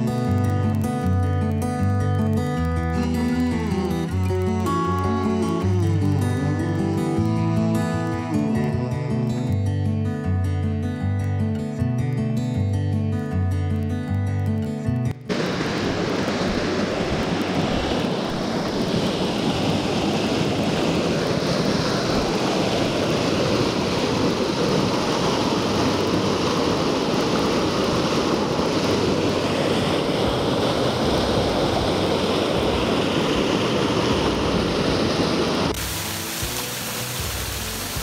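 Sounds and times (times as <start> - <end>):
waterfall pouring over rock: 0.0 - 8.3, 15.3 - 38.0.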